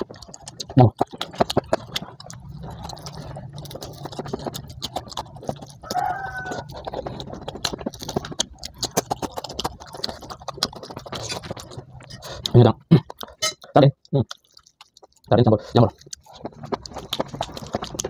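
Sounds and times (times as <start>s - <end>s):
wet mouth clicks and smacks: 0.0s - 15.3s
man chewing food: 0.0s - 18.0s.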